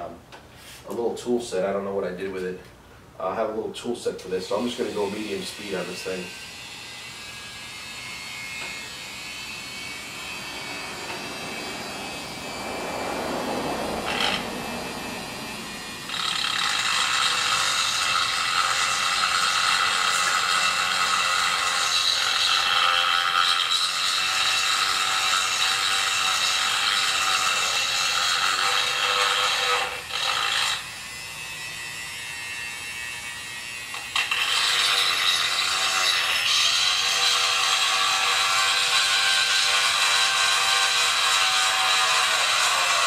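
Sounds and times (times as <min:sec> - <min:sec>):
rotary tool grinding whine: 0:04.5 - 0:43.0.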